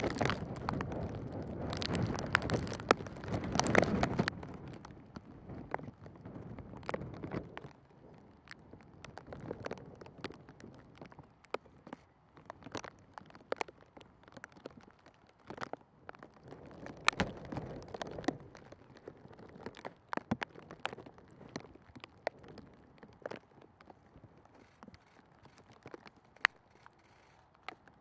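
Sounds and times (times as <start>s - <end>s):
raindrop taps: 0.0s - 6.0s, 6.7s - 26.8s.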